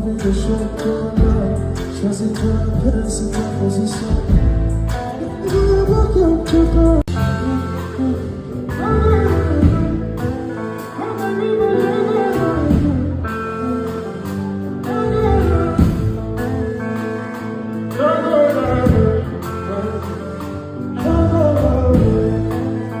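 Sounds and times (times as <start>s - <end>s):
band playing: 0.0s - 23.0s
person singing: 0.0s - 23.0s.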